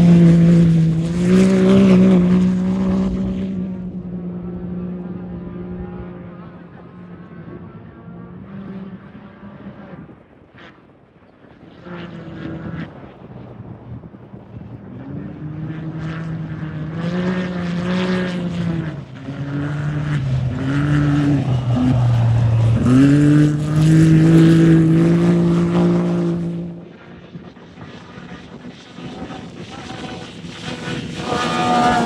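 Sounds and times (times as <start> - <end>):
off-road vehicle engine passing: 0.0 - 10.8, 11.4 - 32.0.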